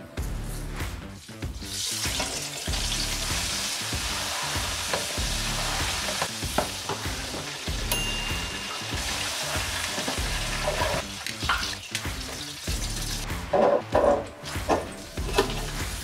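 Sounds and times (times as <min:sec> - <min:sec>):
chicken deep-frying in oil: 0:01.2 - 0:13.6, 0:14.4 - 0:16.0.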